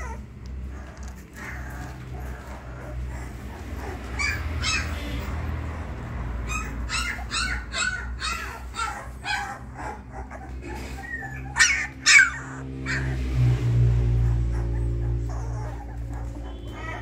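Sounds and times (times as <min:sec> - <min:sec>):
puppy yelping and whimpering: 0:00.0 - 0:13.3, 0:14.2 - 0:17.0.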